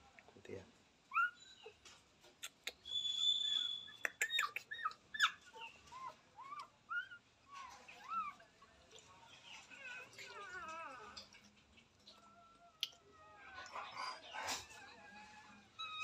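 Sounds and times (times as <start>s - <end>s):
puppies squeaking: 1.1s - 1.8s, 2.4s - 8.5s, 9.4s - 16.0s.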